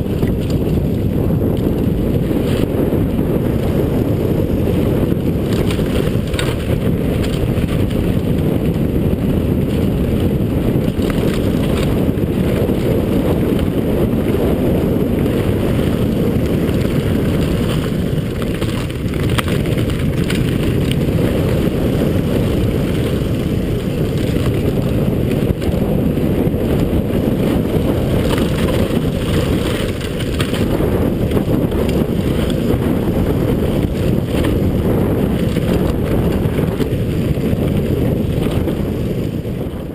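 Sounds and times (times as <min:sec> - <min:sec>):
bike clicks and knocks: 0:00.0 - 0:02.7, 0:05.4 - 0:14.3, 0:15.2 - 0:26.0, 0:26.6 - 0:39.7
wind noise on microphone: 0:00.0 - 0:39.9.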